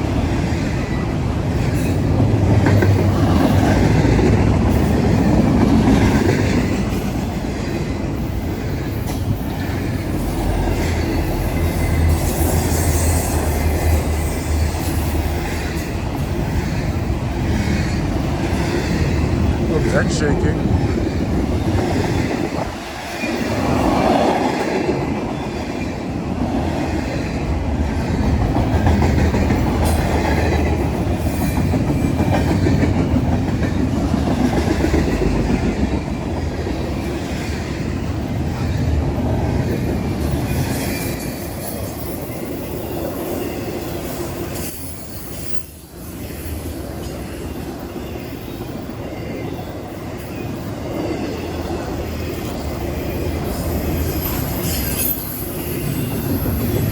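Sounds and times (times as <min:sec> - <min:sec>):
freight train cars rolling on rails: 0:00.0 - 0:56.9.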